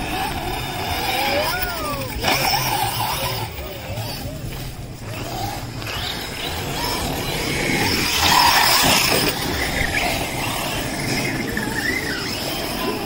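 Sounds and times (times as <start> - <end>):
toy truck motors whining: 0.0 - 13.0
tyres on loose dirt: 0.0 - 13.0.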